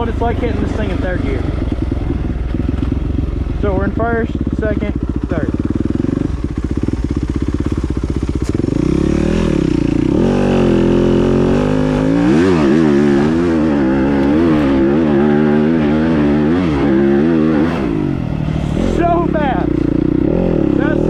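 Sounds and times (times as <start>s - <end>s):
dirt bike engine accelerating: 0.0s - 21.0s.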